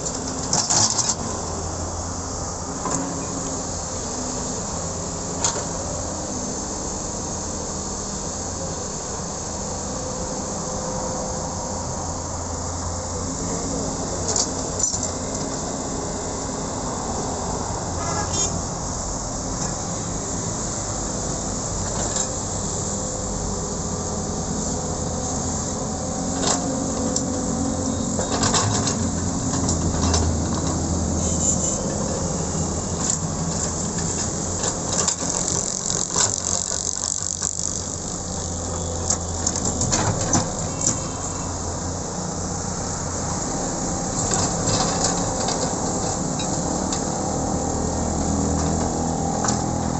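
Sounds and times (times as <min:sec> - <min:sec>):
excavator diesel engine working: 0:00.0 - 0:49.9.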